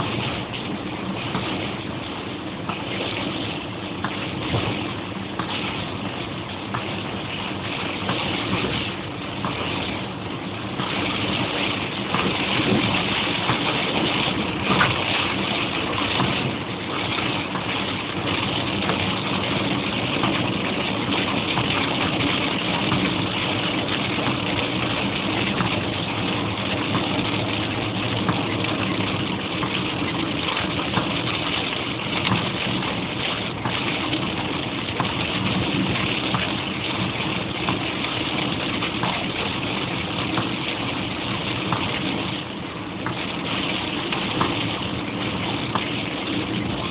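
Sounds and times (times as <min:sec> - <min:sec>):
car engine running: 0:00.0 - 0:46.9
rain and tyres on wet road: 0:00.0 - 0:46.9.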